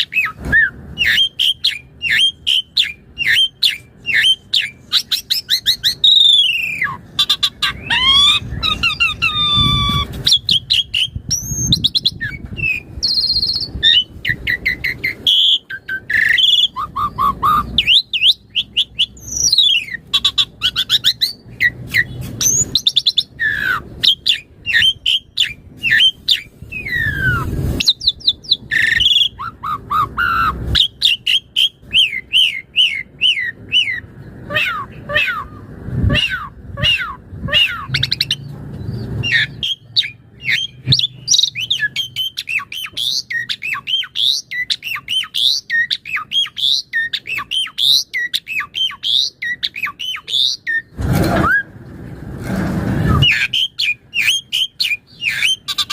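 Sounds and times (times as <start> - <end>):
starling singing: 0.0 - 51.7, 53.0 - 55.9.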